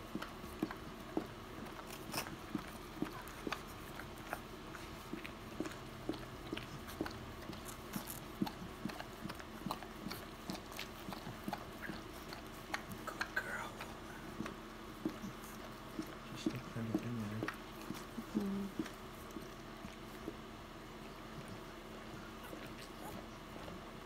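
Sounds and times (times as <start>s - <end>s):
dog licking wetly: 0.0s - 23.8s.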